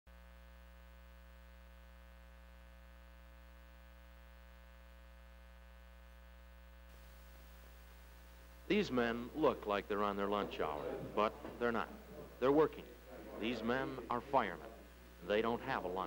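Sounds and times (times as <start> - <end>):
faint mains hum: 0.1 - 16.0
soft hiss: 0.3 - 16.0.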